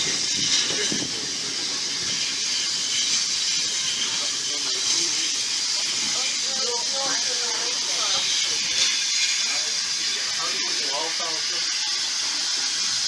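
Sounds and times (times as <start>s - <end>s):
moving train hiss and rumble: 0.0s - 13.0s.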